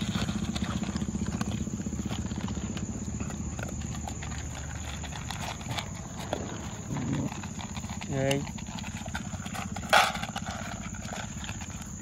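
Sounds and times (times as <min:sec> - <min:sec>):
dogs crunching dry food: 0:00.0 - 0:12.0.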